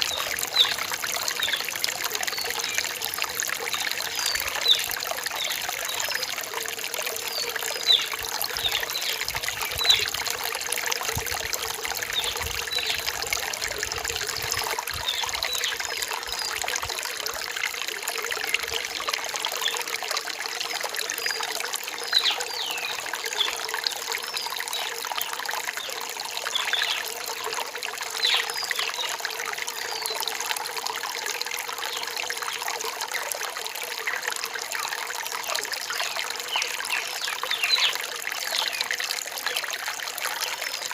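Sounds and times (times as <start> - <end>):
forest stream trickling: 0.0 - 40.9.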